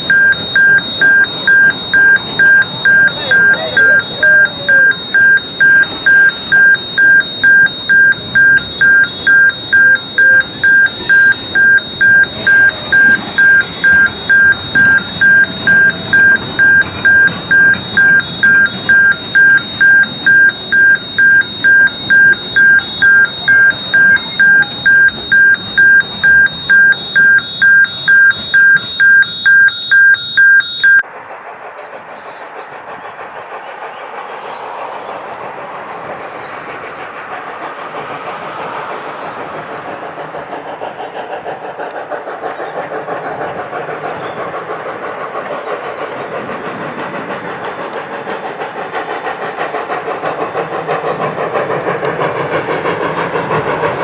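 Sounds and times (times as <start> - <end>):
level-crossing alarm beeping: 0.0 - 31.1, 33.4 - 54.0
steady background noise: 0.0 - 54.0.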